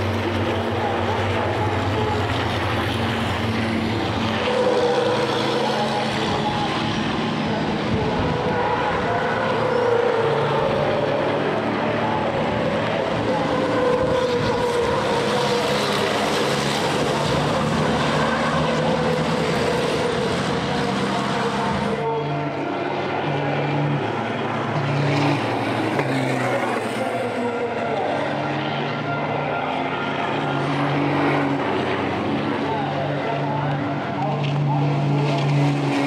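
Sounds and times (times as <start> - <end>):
racing truck engines: 0.0 - 36.0.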